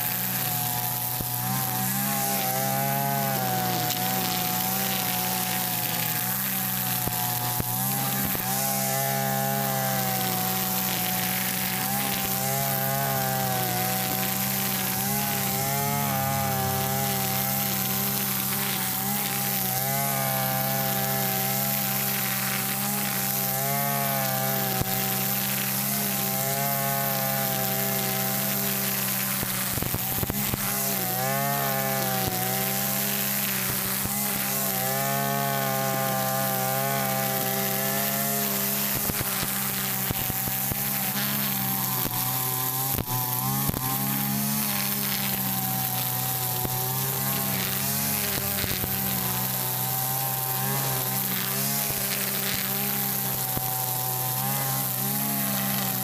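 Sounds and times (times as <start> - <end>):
brush cutter engine running: 0.0 - 56.0
string head cutting grass: 0.0 - 56.0.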